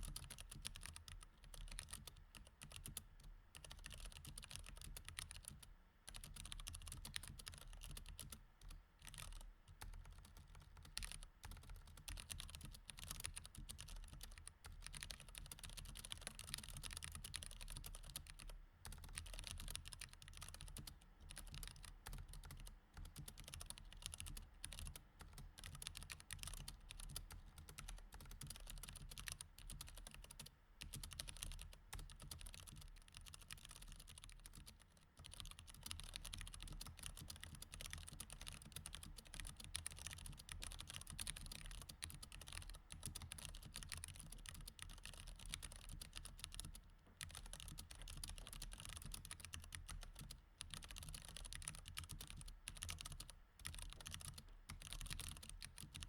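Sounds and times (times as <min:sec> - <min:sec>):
mechanical keyboard typing: 0:00.0 - 0:03.0, 0:03.6 - 0:56.0.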